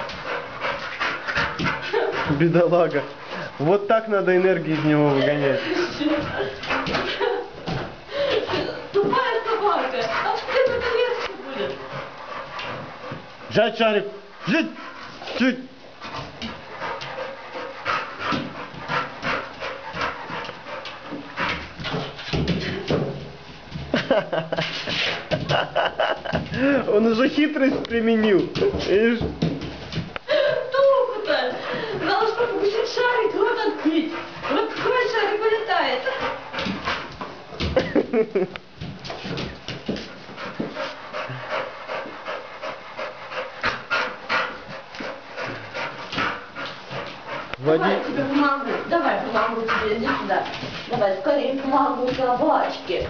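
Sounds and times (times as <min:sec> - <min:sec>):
dog panting hard: 0:00.0 - 0:23.1, 0:23.7 - 0:37.8, 0:39.1 - 0:53.0.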